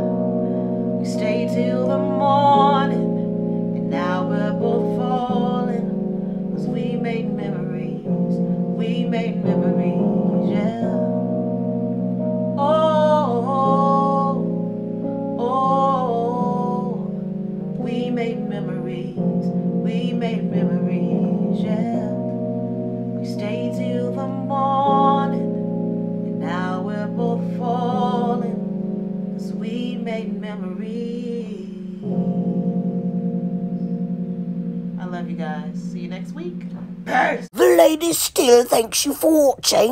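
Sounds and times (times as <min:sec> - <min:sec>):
keyboard playing chords: 0:00.0 - 0:39.9.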